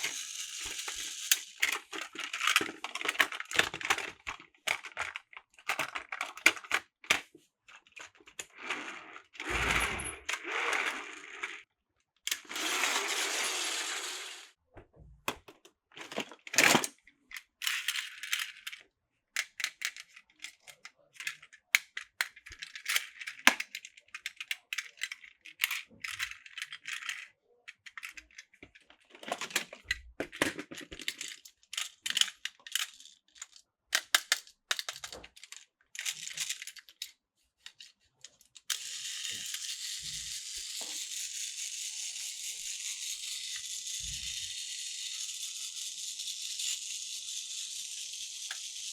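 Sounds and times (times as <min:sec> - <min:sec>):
plastic toy track clicking: 0:00.0 - 0:07.2, 0:07.8 - 0:11.7, 0:12.3 - 0:14.5, 0:15.3 - 0:18.8, 0:19.4 - 0:48.9.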